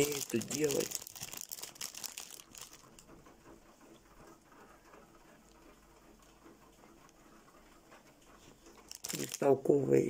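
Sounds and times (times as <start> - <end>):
faint rain pattering: 0.0 - 10.0.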